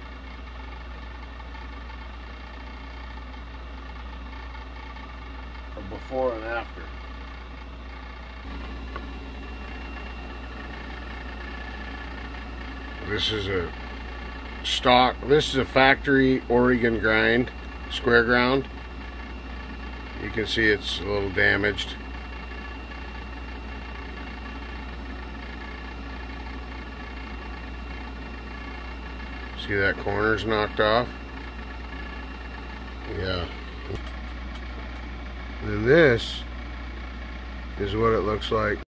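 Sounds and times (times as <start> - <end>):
faint steady whines: 0.0 - 38.8
motor humming: 0.0 - 38.8.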